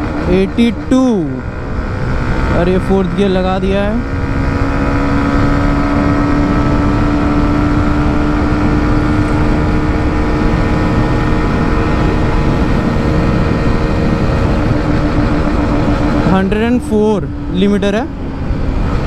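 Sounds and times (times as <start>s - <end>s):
motorcycle engine running flat out: 0.0s - 19.0s
rush of wind noise: 0.0s - 19.0s.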